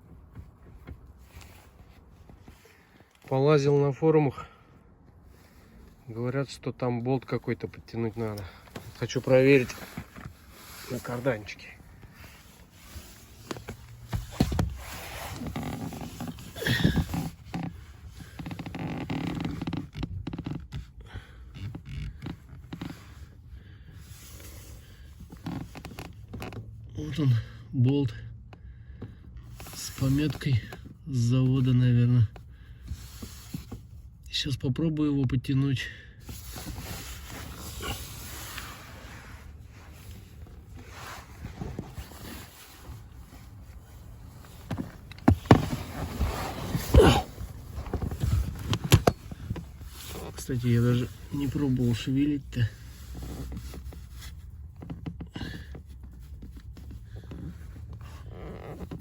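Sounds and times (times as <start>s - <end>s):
rustling of hands and gear: 0.0s - 3.4s, 4.7s - 26.9s, 28.5s - 34.2s, 36.2s - 59.0s.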